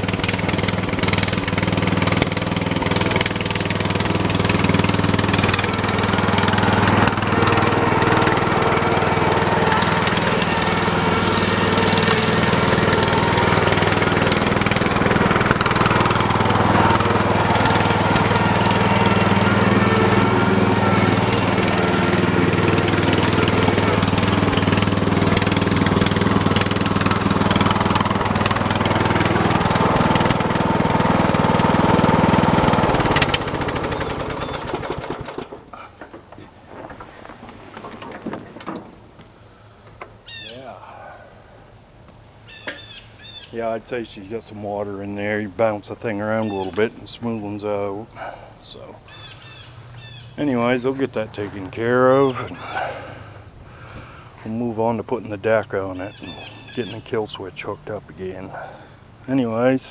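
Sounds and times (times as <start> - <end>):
lawn tractor engine running: 0.0 - 59.9.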